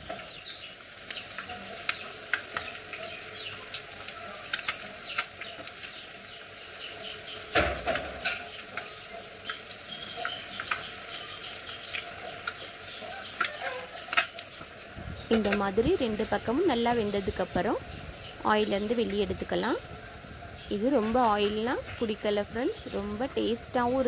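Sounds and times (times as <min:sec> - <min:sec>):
metal spoon turning food in pan: 0:00.0 - 0:24.0
oil sizzling with crackles: 0:00.0 - 0:24.0.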